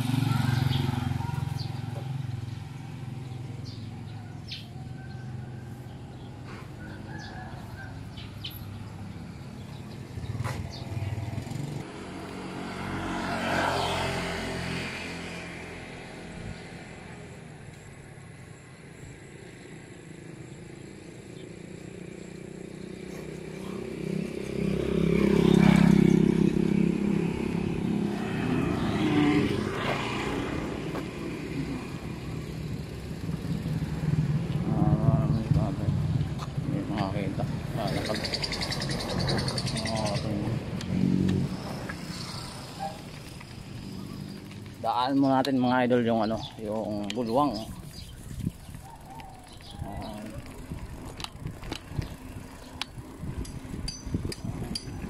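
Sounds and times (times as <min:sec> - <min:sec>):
birds chirping: 0:00.0 - 0:11.8, 0:15.8 - 0:55.0
motorcycles passing: 0:00.0 - 0:55.0.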